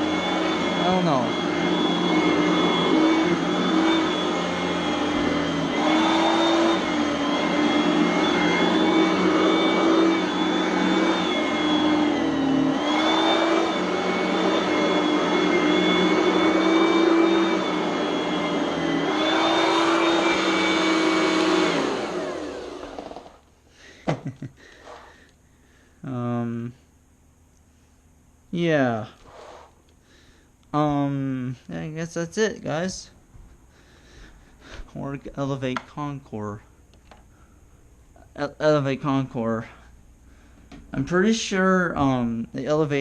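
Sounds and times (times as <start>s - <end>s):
vacuum cleaner whine: 0.0s - 25.3s, 27.8s - 43.0s.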